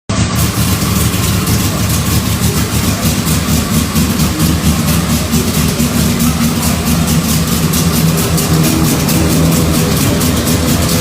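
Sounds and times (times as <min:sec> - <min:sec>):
race car engine idling: 0:00.1 - 0:11.0.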